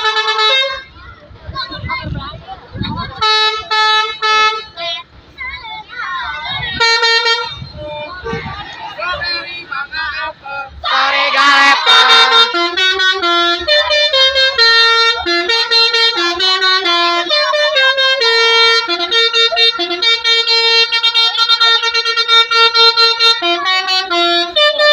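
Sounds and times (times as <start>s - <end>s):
musical bus horn tune: 0.0s - 1.0s, 3.0s - 5.2s, 6.4s - 24.9s
voices: 0.0s - 24.9s.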